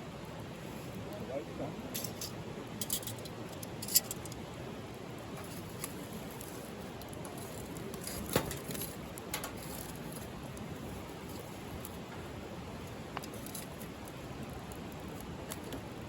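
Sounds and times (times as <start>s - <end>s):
steady low hiss: 0.0s - 16.0s
wood fire crackling: 0.0s - 16.0s.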